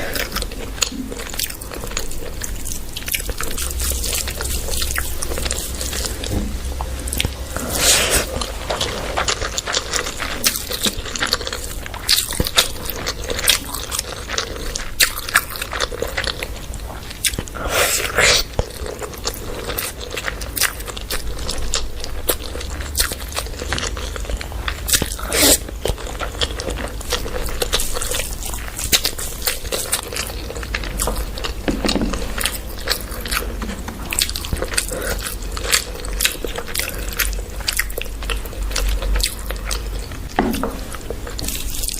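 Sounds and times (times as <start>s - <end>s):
biting and chewing food: 0.0s - 41.9s
steady low hum: 0.0s - 41.9s.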